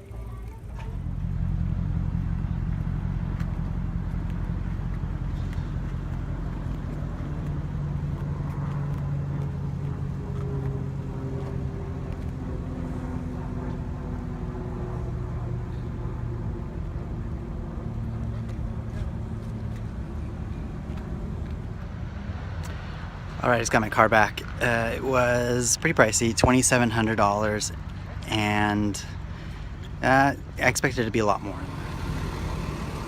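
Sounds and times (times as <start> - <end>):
car engine hum: 0.0 - 33.0
road rumble: 0.0 - 33.0.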